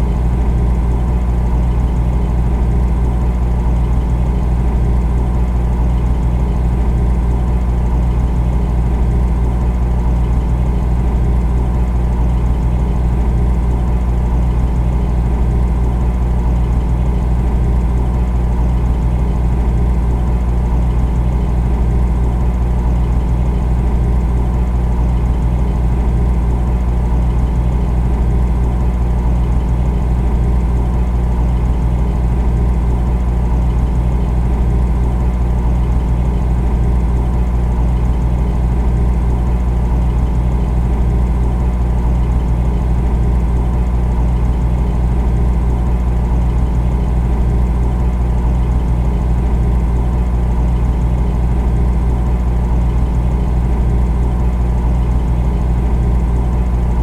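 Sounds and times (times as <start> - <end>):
refrigerator humming: 0.0 - 57.0.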